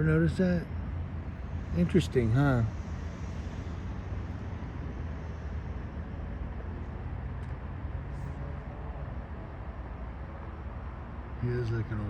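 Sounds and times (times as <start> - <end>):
idling vehicle engines: 0.0 - 12.0
street traffic rumble: 0.0 - 12.0.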